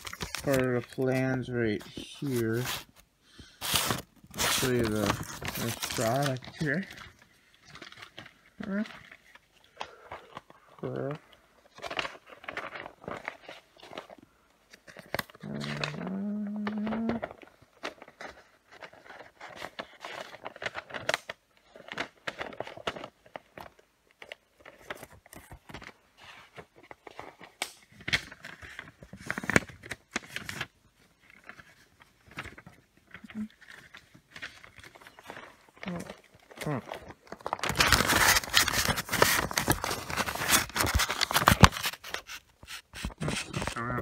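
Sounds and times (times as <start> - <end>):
rustling and clicking of handling: 0.0 - 44.0.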